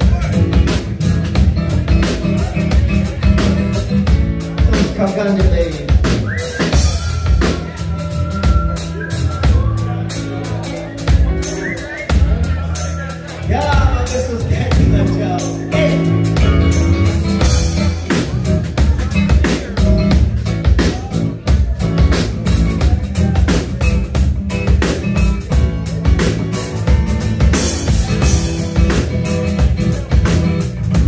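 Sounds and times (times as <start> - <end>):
drum kit beats: 0.0 - 31.0
electric bass: 0.0 - 31.0.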